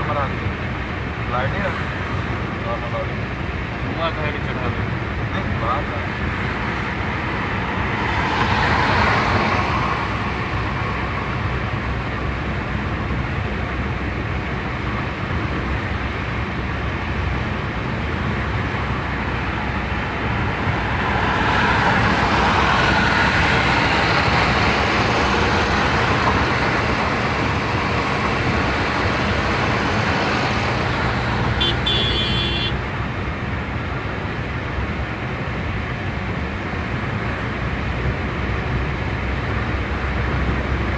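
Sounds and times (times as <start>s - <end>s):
car road and engine noise: 0.0s - 40.9s.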